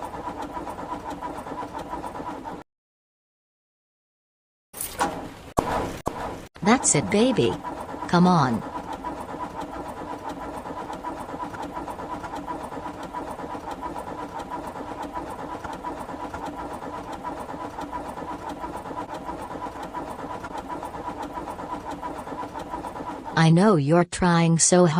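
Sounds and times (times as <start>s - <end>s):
car engine cranking: 0.0s - 2.6s, 4.8s - 23.4s.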